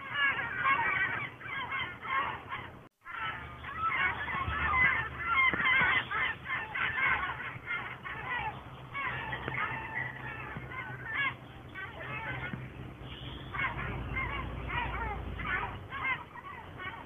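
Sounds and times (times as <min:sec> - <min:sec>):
faint low hum: 0:00.0 - 0:17.0
many birds calling: 0:00.0 - 0:17.0.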